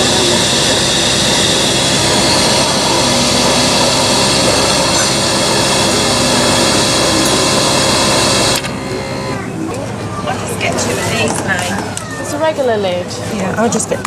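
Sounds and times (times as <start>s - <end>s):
coffee machine whirring: 0.0s - 12.3s.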